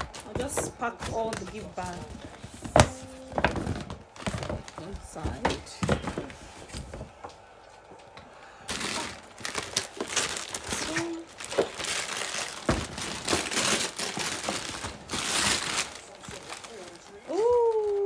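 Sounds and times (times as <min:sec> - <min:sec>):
paper bags rustling and crinkling: 0:00.0 - 0:07.2, 0:08.6 - 0:18.0.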